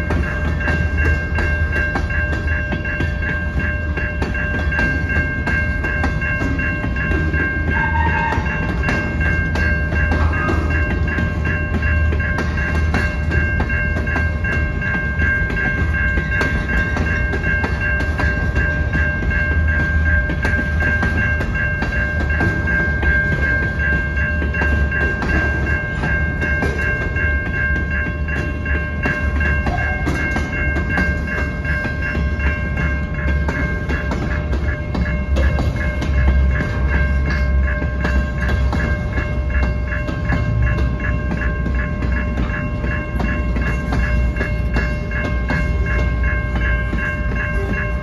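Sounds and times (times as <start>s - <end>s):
freight train wheels rumbling on rail: 0.0s - 48.0s.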